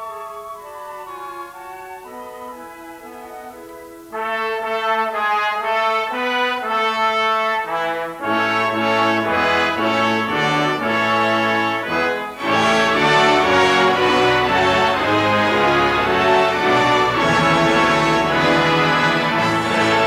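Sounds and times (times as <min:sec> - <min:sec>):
brass section playing sustained chords: 0:00.0 - 0:20.0.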